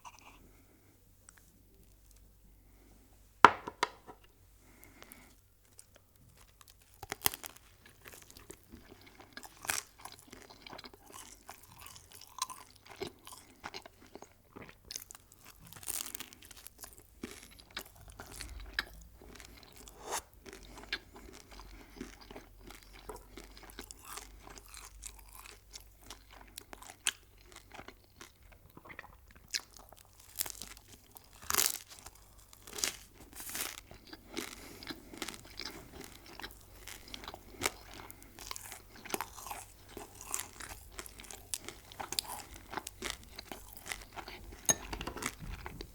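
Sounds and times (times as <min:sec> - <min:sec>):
crunchy eating and chewing: 0:04.7 - 0:45.9.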